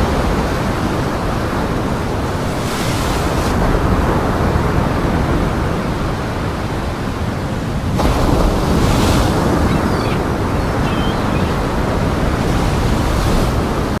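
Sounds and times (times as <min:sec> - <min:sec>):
storm waves breaking: 0:00.0 - 0:14.0.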